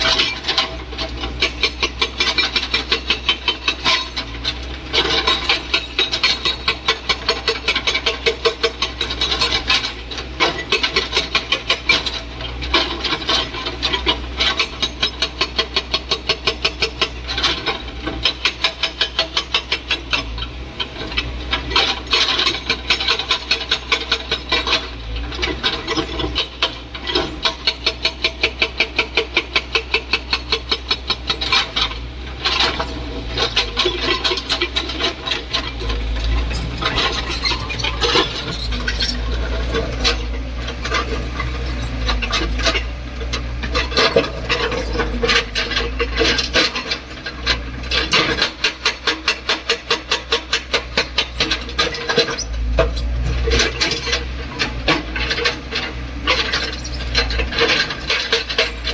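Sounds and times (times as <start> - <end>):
excavator engine drone: 0.0 - 58.9.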